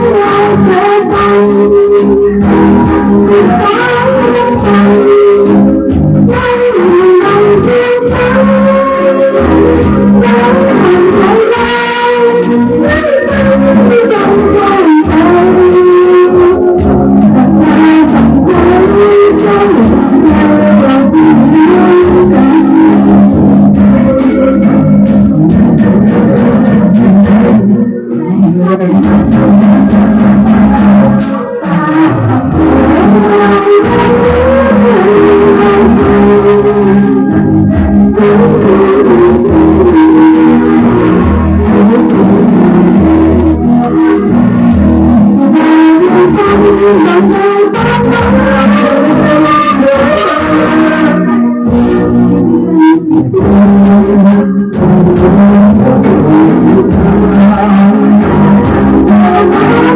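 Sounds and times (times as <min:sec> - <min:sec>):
loud guitar music with sliding notes: 0:00.0 - 0:59.9.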